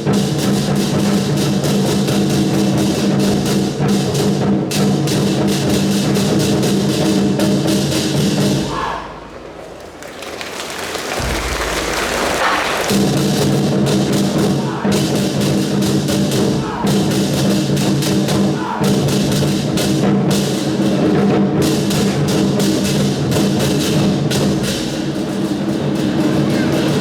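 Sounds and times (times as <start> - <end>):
drums and percussion: 0.0 - 27.0.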